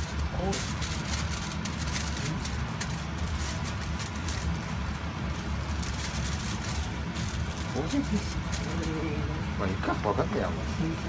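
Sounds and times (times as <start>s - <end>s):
aluminium foil crinkling: 0.0s - 10.2s.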